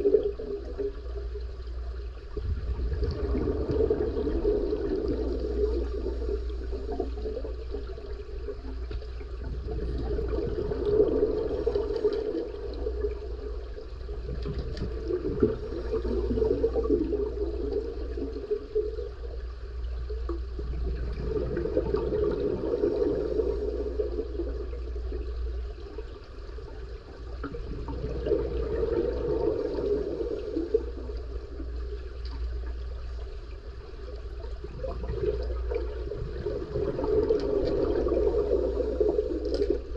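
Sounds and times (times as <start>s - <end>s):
regulator bubbles underwater: 0.0s - 39.9s
steady low hum: 0.0s - 39.9s.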